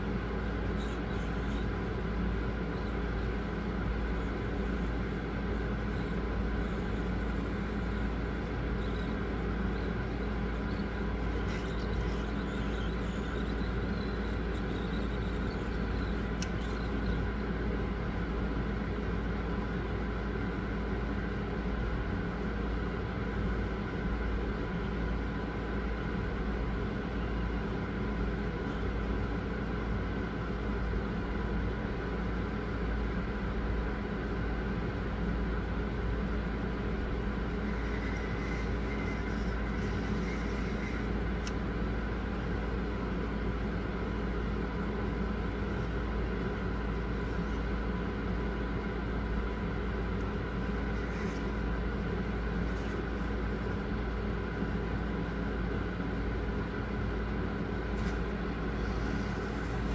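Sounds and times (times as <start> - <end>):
mechanical hum and hiss: 0.0 - 59.9.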